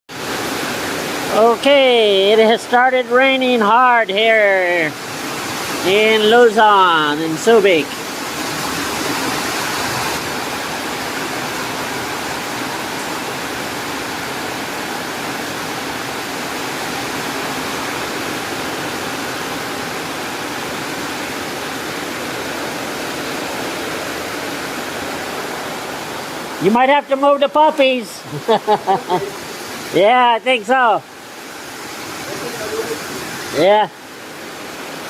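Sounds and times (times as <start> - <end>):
heavy rain pouring: 0.1 - 35.0.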